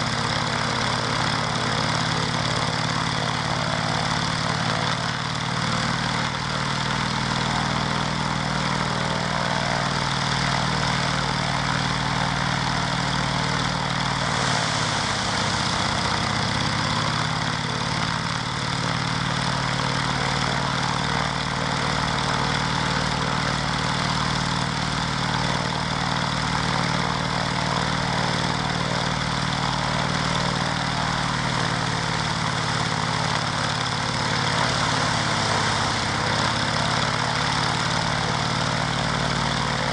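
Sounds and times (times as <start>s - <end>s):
radial piston engine and propeller: 0.0s - 39.9s.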